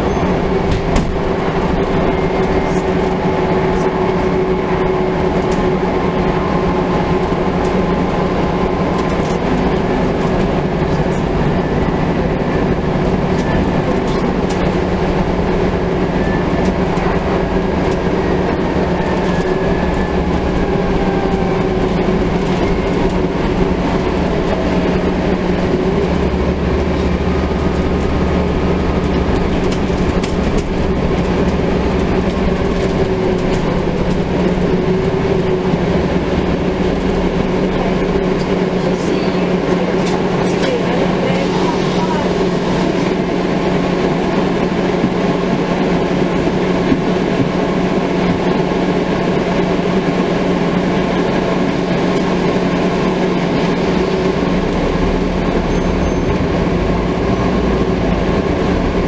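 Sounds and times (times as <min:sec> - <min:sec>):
bus diesel engine droning: 0:00.0 - 0:59.0
drivetrain whine: 0:00.0 - 0:59.0.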